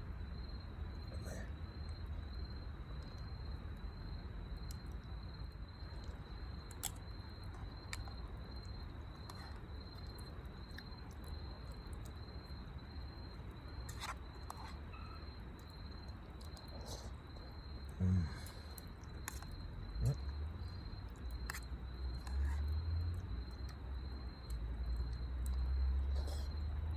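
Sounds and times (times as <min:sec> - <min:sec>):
low outdoor rumble: 0:00.0 - 0:26.9.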